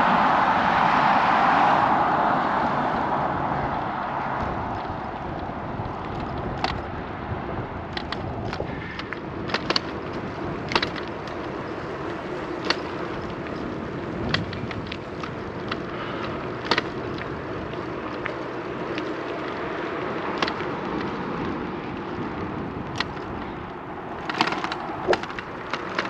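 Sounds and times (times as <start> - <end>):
bicycle tyres rolling on pavement: 0.0 - 26.0
bicycle rattling over bumps: 2.4 - 26.0.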